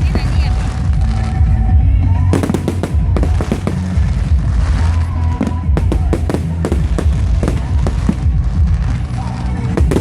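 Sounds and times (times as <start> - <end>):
fireworks bangs and crackles: 0.0 - 10.0
music playing: 0.0 - 10.0.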